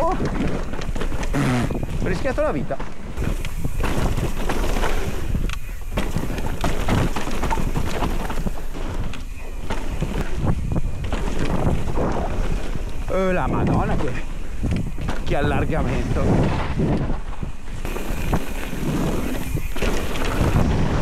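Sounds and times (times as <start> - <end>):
bike clattering over bumps: 0.0 - 21.0
tyres rolling on dirt: 0.0 - 21.0
wind buffeting microphone: 0.0 - 21.0.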